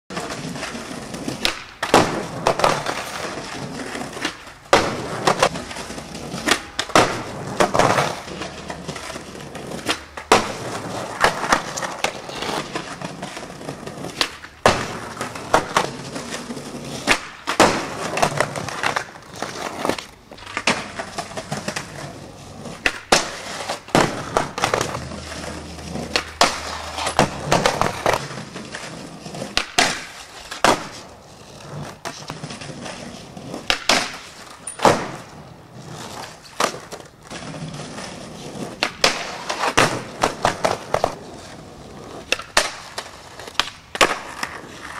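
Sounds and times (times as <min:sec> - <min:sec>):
skateboard clacking on ground: 0:00.1 - 0:44.9
skateboard wheels rolling on pavers: 0:00.1 - 0:44.9.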